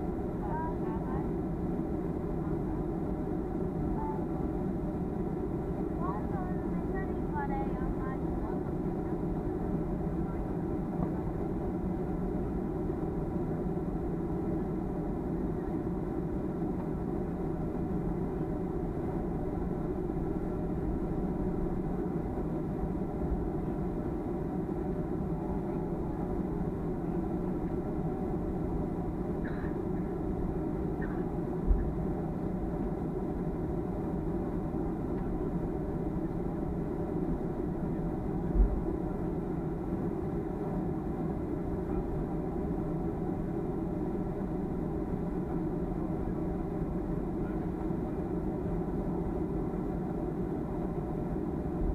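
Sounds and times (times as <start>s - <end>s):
aircraft cabin engine hum: 0.0s - 51.9s.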